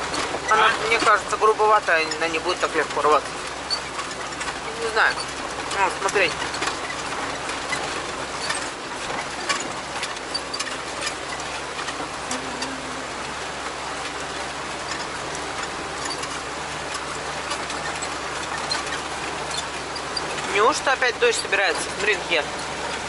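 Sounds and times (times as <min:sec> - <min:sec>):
car engine and road hum: 0:00.0 - 0:23.0
small clicks and rattles: 0:00.0 - 0:23.0.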